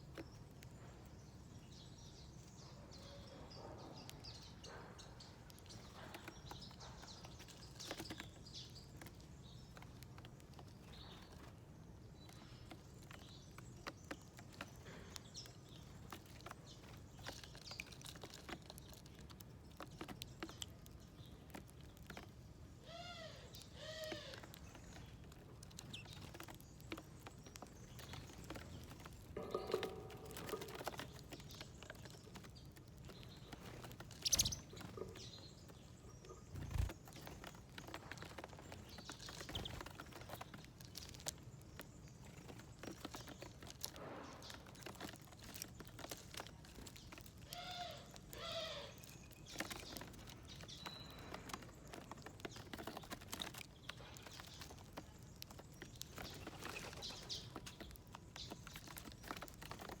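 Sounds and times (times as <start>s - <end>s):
birds pecking seeds: 0.0s - 60.0s.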